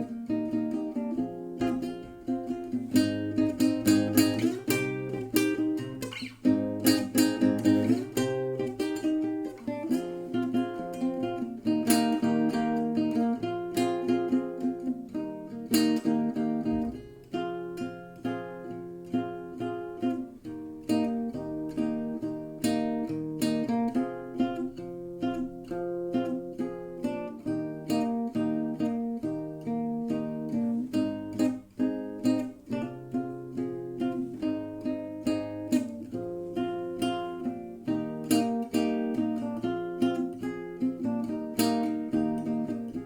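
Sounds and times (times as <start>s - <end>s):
acoustic guitar picking: 0.0s - 43.0s.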